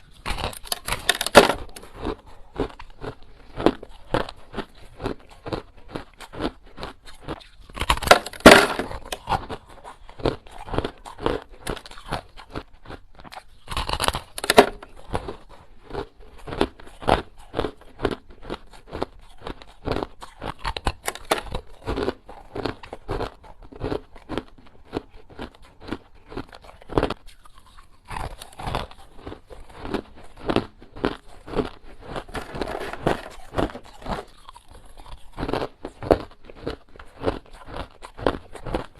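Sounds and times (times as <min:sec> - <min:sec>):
person crunching ice cubes: 0:00.0 - 0:38.9.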